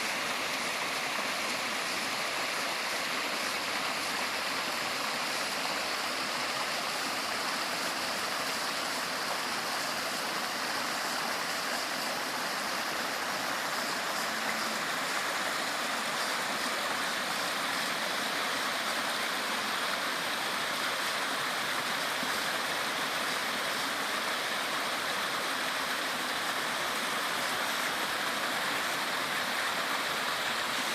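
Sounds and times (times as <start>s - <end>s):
small waterfall splashing: 0.0s - 30.9s.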